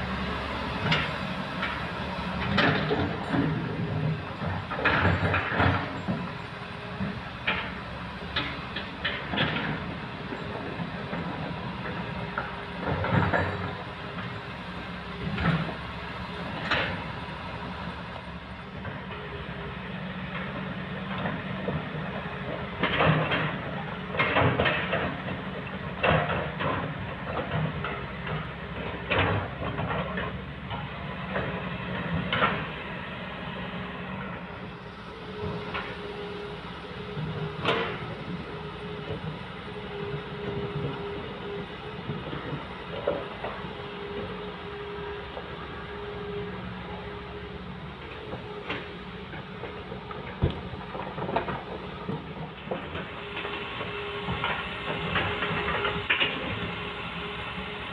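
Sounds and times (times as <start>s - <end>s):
heavy diesel machinery running: 0.0s - 57.9s.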